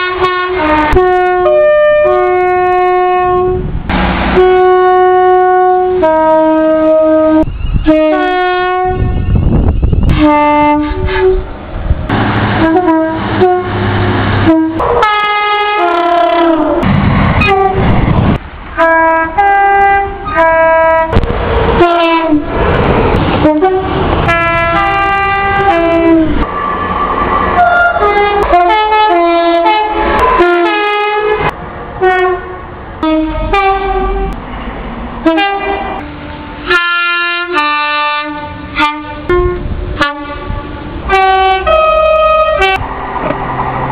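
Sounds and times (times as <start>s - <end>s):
two-tone train horn blasts: 0.0s - 3.7s, 4.3s - 9.4s, 10.1s - 11.5s, 12.6s - 17.9s, 18.8s - 21.2s, 21.8s - 22.5s, 23.4s - 26.5s, 27.6s - 34.4s, 35.2s - 42.9s
trains passing: 0.0s - 43.9s.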